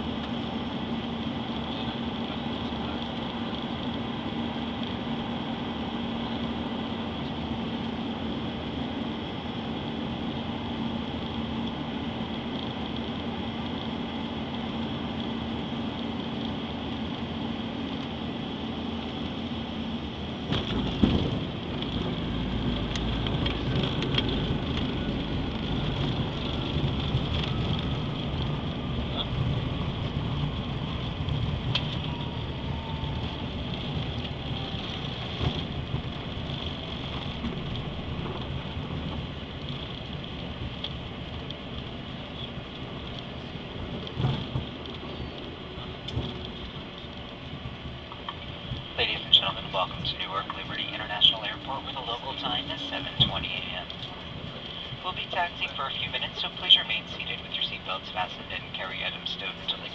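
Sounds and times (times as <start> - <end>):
jet engine and airflow noise: 0.0 - 59.9
wheels rumbling on runway: 0.0 - 59.9.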